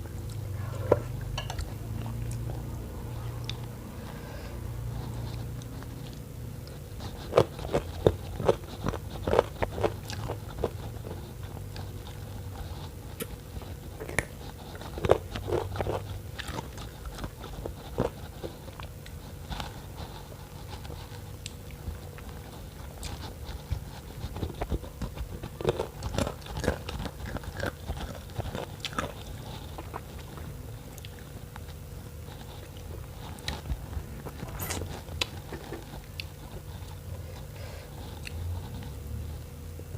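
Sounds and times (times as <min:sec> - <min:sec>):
person chewing and biting wetly: 0:05.1 - 0:38.9.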